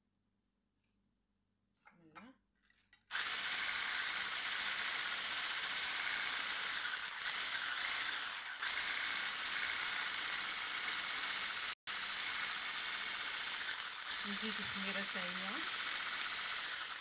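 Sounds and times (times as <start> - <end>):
electric whisk whirring: 3.1 - 17.0.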